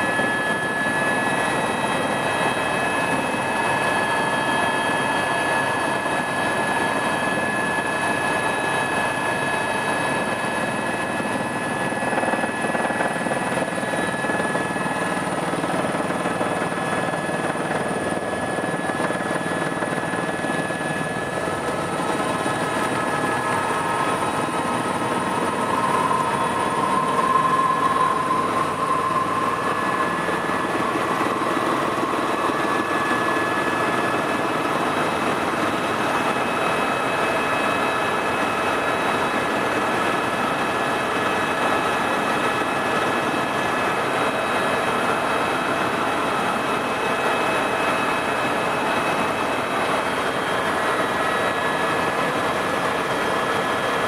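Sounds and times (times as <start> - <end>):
helicopter engine and rotor noise: 0.0 - 54.0.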